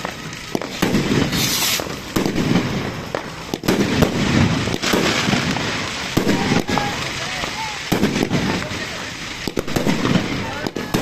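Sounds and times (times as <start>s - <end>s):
firework hiss: 0.0s - 11.0s
fireworks bangs: 0.0s - 11.0s.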